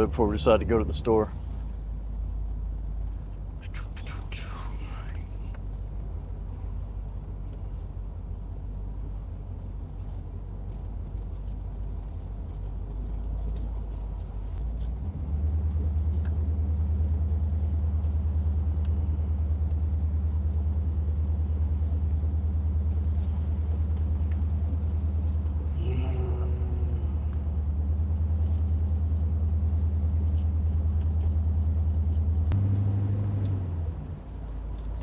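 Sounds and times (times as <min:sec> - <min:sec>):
car engine low rumble: 0:00.0 - 0:35.0.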